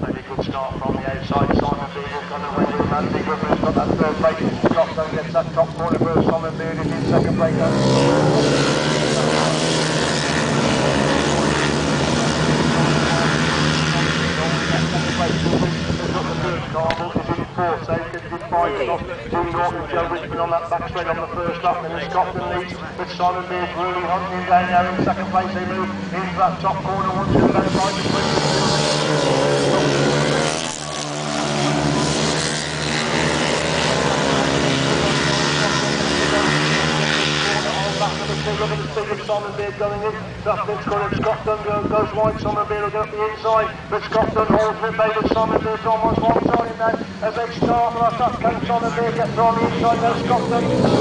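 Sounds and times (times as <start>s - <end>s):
racing sidecar engines passing: 0.0s - 51.0s.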